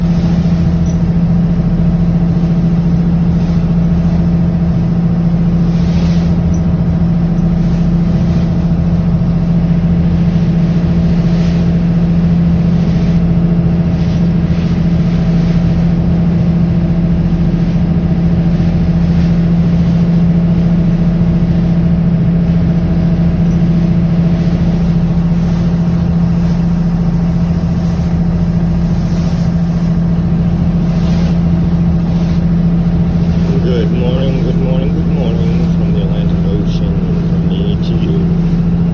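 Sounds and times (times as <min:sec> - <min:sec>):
boat engine humming: 0:00.0 - 0:38.9.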